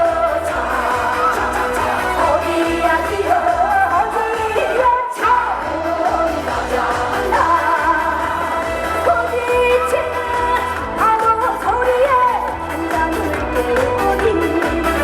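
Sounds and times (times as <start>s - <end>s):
backing music with steady beat: 0.0s - 15.0s
woman singing: 0.0s - 15.0s.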